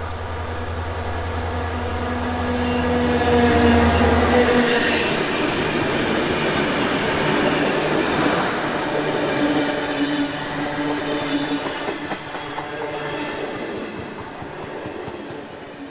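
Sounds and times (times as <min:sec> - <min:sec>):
train wheels clattering over rails: 0:02.4 - 0:15.9.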